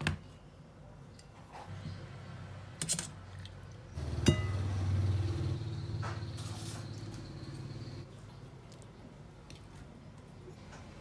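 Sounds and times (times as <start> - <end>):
low steady hum: 0.1 - 11.0.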